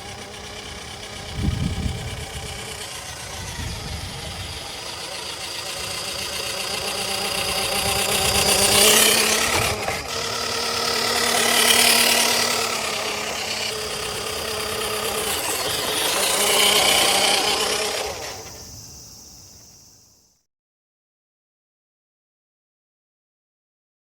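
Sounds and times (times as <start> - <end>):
toy car rattling: 0.0 - 19.4
electric motor whine: 0.0 - 20.1.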